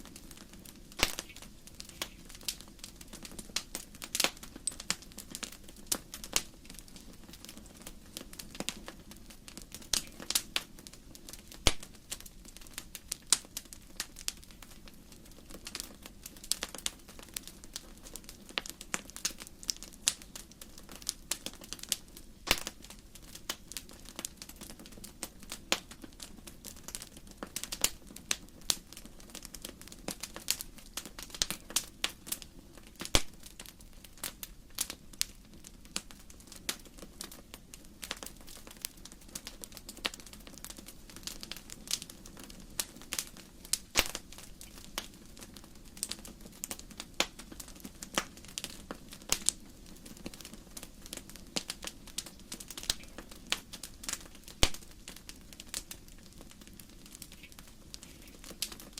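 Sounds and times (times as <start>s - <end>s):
burning logs crackling and popping: 0.0s - 58.9s.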